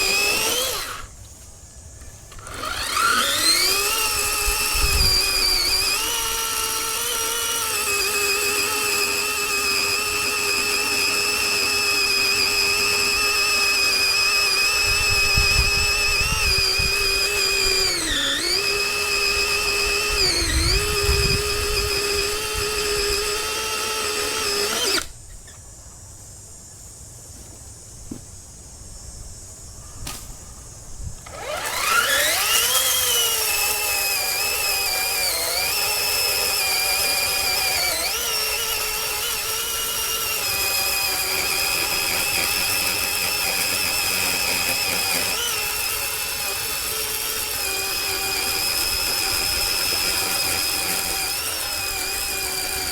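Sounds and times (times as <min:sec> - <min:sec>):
electric chainsaw whining: 0:00.0 - 0:01.2, 0:02.1 - 0:25.2, 0:31.2 - 0:52.9.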